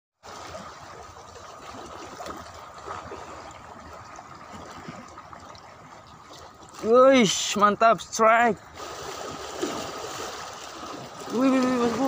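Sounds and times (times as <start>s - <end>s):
seawater lapping among rocks: 0.2s - 12.0s.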